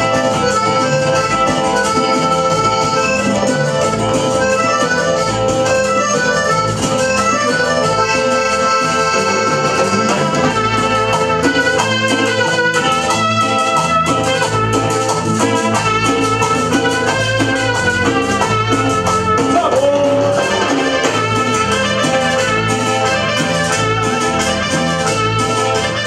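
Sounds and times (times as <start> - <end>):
accordion melody: 0.0 - 26.0
drums beat: 0.0 - 26.0
electric bass: 0.0 - 26.0
keyboard: 0.0 - 26.0.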